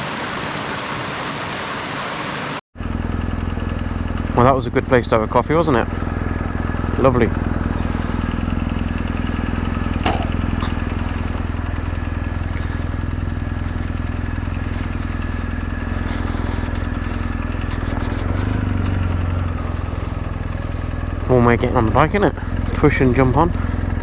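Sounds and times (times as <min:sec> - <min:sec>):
motorcycle engine idling: 0:02.8 - 0:24.0.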